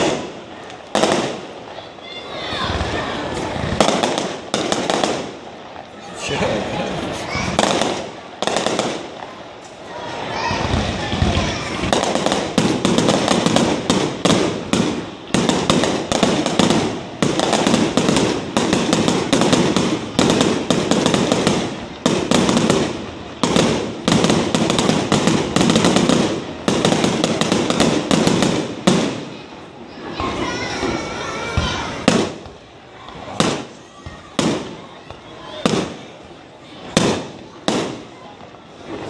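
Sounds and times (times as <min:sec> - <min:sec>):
fireworks bangs and pops: 0:00.0 - 0:39.0.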